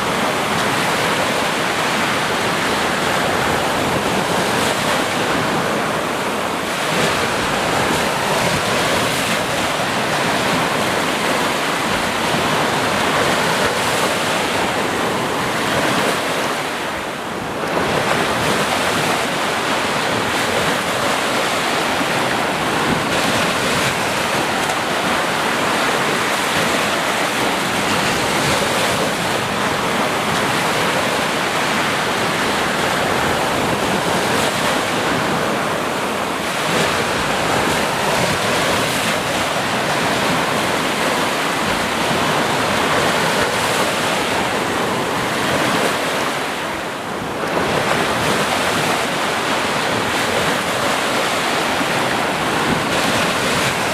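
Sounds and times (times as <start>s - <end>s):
sea waves washing onto shore: 0.0s - 53.9s.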